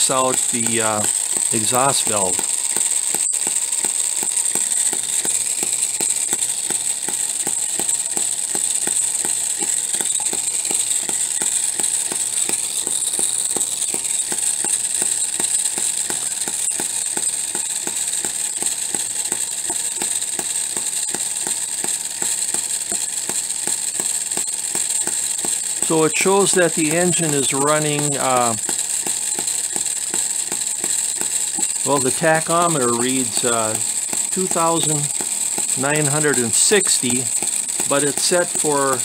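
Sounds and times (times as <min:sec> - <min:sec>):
small engine popping: 0:00.0 - 0:39.0.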